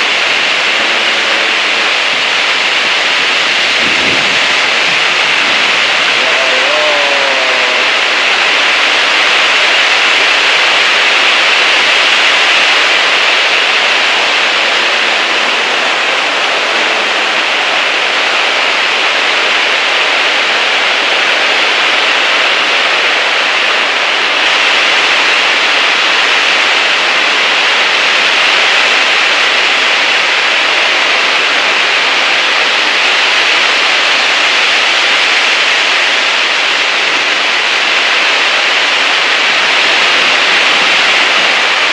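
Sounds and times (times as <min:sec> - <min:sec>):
heavy rain: 0:00.0 - 0:41.9
strong wind: 0:00.0 - 0:41.9.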